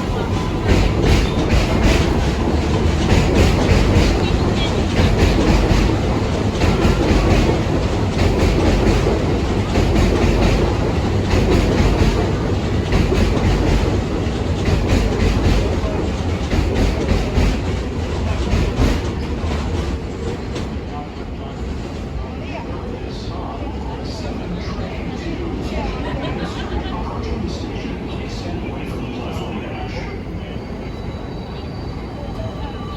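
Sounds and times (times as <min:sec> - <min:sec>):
subway train running on rails: 0:00.0 - 0:32.9.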